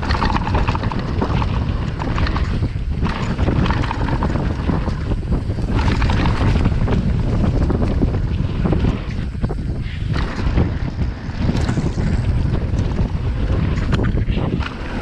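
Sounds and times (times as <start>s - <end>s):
bike rattling over rough ground: 0.0s - 15.0s
wind buffeting microphone: 0.0s - 15.0s.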